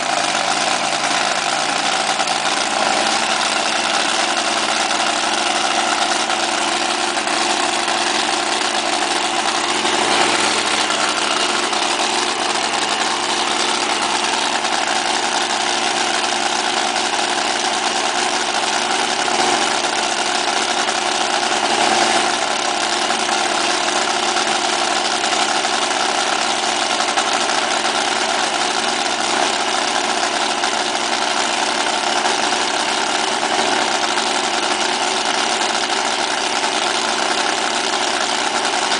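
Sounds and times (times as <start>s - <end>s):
boat engine idling: 0.0s - 38.9s.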